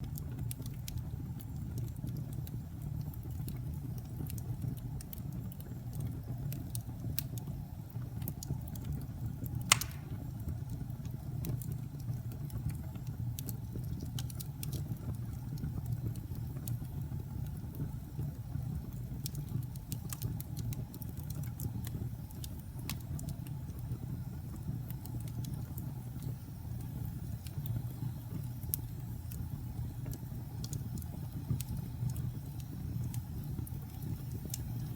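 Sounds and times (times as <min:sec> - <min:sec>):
fire crackling and popping: 0:00.0 - 0:34.9
fire flames rumbling: 0:00.0 - 0:34.9.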